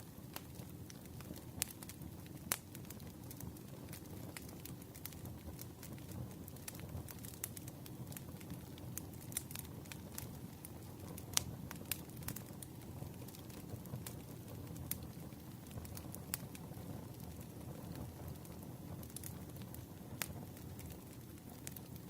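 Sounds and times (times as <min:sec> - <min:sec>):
low rumble of burning wood: 0:00.0 - 0:22.0
campfire crackling and popping: 0:00.1 - 0:22.0.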